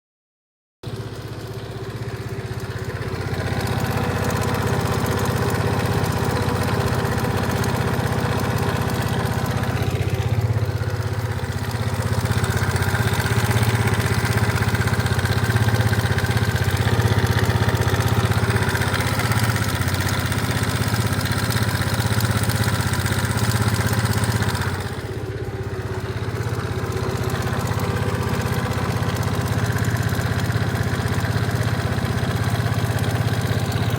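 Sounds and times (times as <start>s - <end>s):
scooter engine idling: 0.8s - 33.9s.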